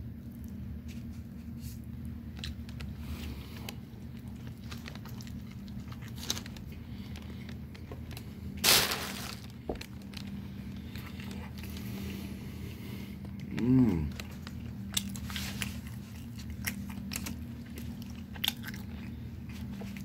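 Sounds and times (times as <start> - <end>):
steady low hum: 0.0 - 20.0
chewing and mouth noises: 0.1 - 8.6, 9.9 - 20.0.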